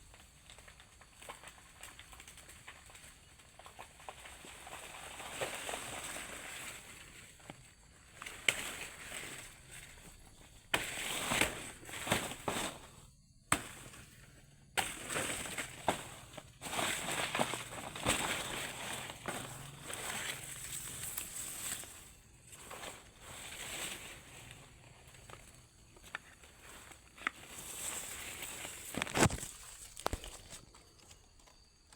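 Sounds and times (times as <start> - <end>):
rustling and crunching plants: 0.0 - 31.9.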